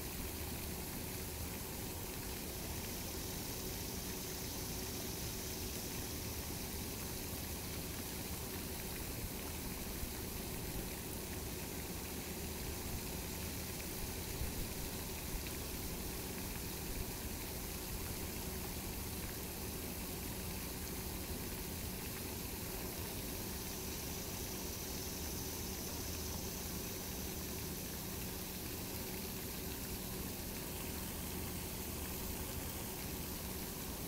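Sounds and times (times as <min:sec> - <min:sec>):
faint steady hum: 0:00.0 - 0:34.0
fountain water splashing: 0:00.0 - 0:34.0.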